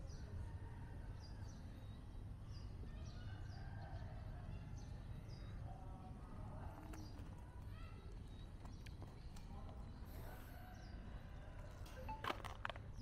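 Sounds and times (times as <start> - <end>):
small birds chirping: 1.2 - 12.2.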